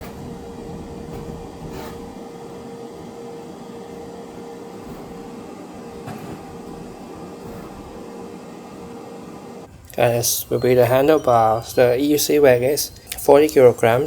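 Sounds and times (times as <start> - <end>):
machine hum with steady tone: 0.0 - 14.0.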